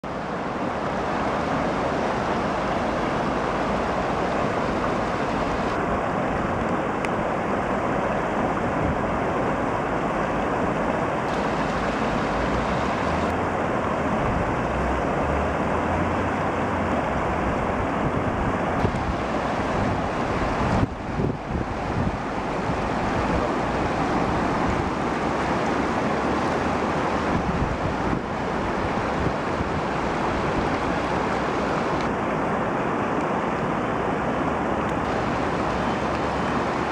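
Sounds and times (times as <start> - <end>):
flooded river rushing: 0.0 - 36.9.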